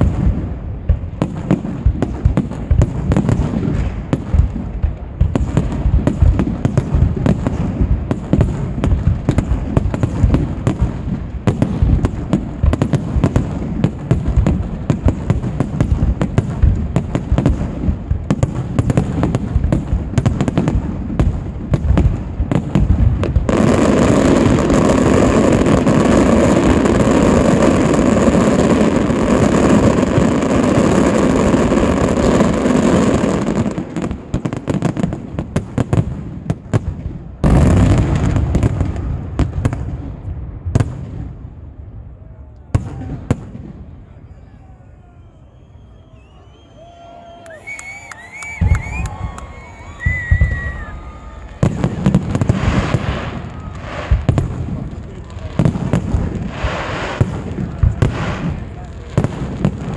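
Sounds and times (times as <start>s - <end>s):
fireworks bursts and bangs: 0.0s - 44.4s, 45.6s - 59.9s.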